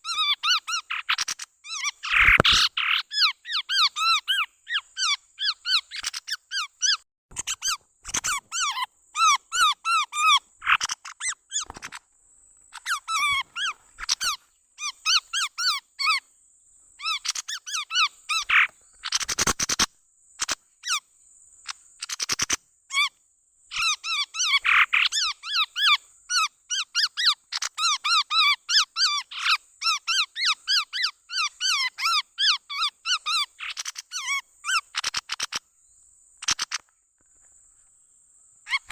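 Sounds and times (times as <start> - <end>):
bird chirping calls: 0.0 - 12.0, 12.7 - 16.3, 17.0 - 23.1, 23.7 - 36.9, 38.6 - 38.9.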